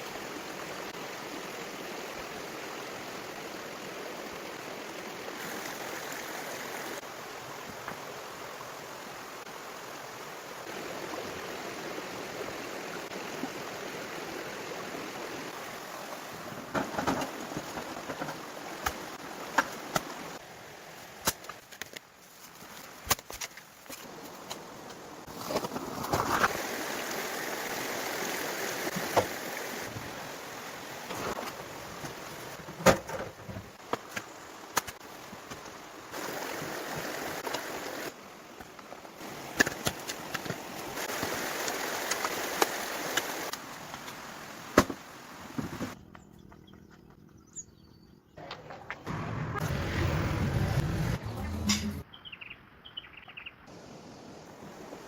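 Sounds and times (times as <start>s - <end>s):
flowing water rushing: 0.0s - 21.8s, 23.8s - 46.0s, 53.7s - 55.0s.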